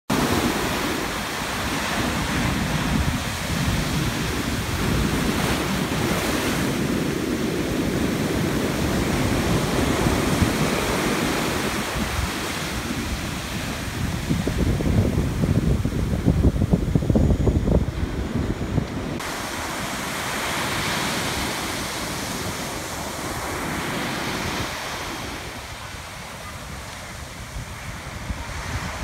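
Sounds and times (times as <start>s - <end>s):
ocean waves breaking: 0.1s - 29.0s
wind buffeting microphone: 0.1s - 29.0s.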